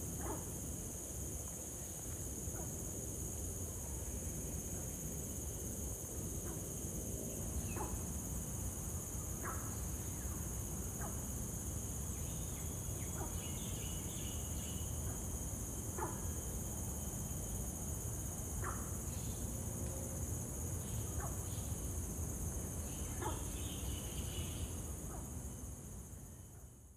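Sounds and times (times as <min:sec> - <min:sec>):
high-pitched insect chorus: 0:00.0 - 0:26.9.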